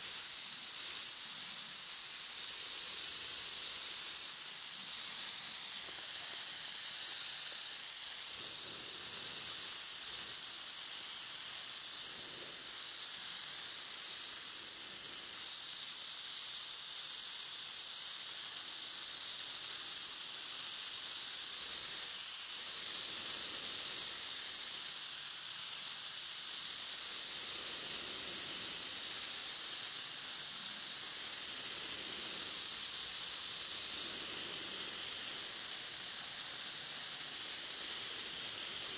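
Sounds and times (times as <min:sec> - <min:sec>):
spray gun air hissing: 0:00.0 - 0:38.9.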